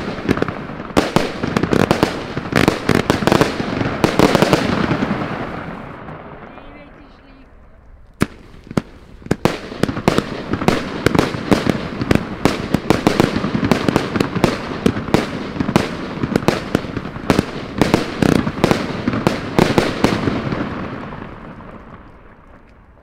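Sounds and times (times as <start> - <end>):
firework bangs: 0.0 - 23.0.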